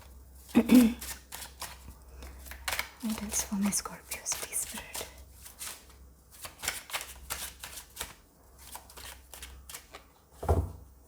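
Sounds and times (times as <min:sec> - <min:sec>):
cards being shuffled: 0:00.4 - 0:10.1.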